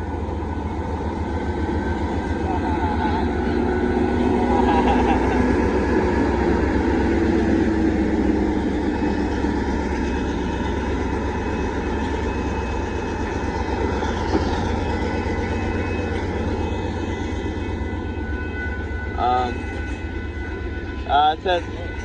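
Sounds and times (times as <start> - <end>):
freight train rumbling on rails: 0.0 - 22.0.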